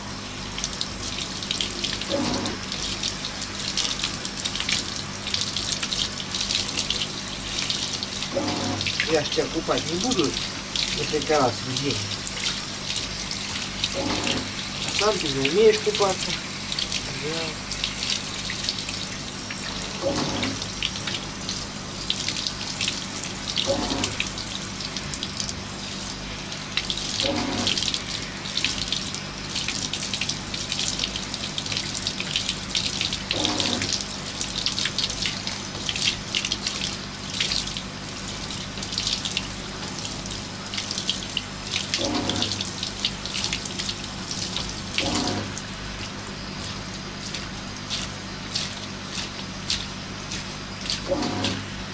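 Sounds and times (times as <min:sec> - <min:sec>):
shower spraying water: 0:00.0 - 0:51.9
water splashing into bathtub: 0:00.5 - 0:51.9.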